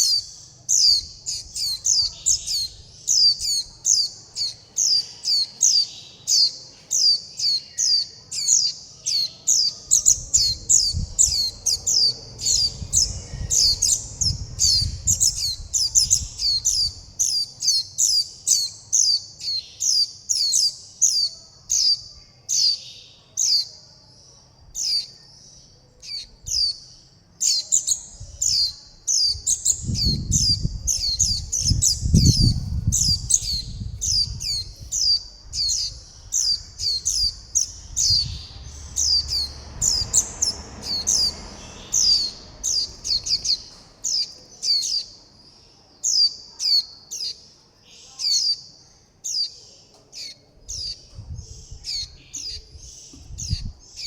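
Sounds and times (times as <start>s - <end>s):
bird high begging calls: 0.0s - 23.9s, 24.7s - 45.2s.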